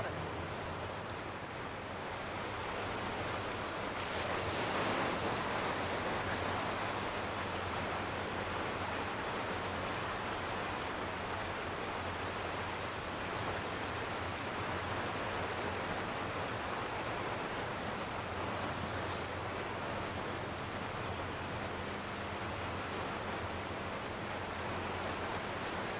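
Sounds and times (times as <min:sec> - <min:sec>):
small waves washing over sand: 0:00.0 - 0:25.9.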